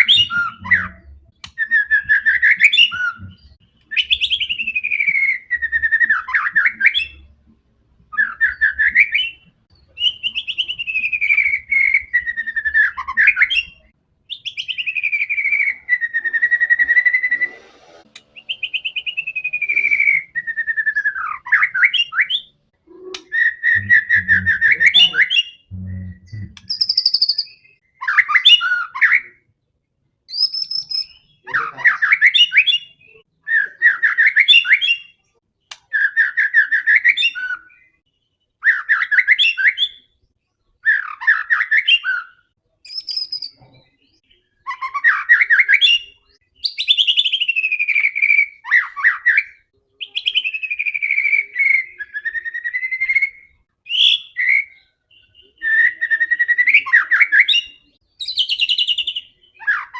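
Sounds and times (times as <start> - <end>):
songbird whistling: 0.0 - 7.3, 8.1 - 17.6, 18.2 - 29.4, 30.3 - 38.0, 40.8 - 43.6, 44.4 - 59.9.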